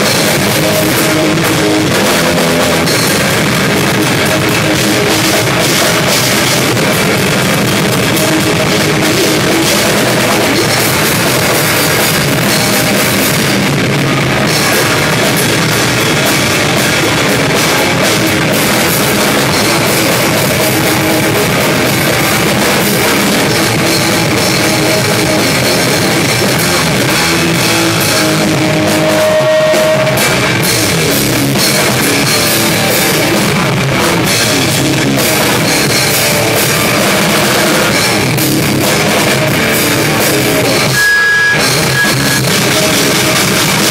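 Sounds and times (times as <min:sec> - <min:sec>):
drum kit with crashing cymbals: 0:00.0 - 0:43.9
electric guitar: 0:00.0 - 0:43.9.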